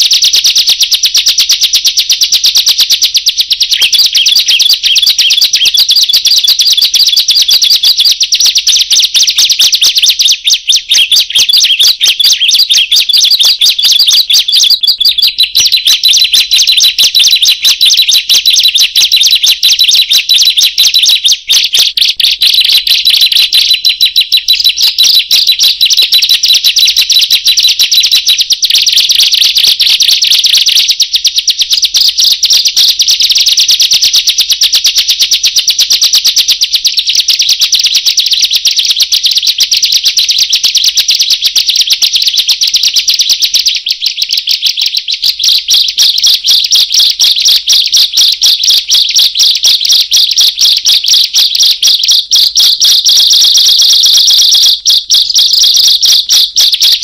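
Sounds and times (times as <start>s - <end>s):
bird chirping rapidly: 1.9s - 33.0s, 40.2s - 57.0s.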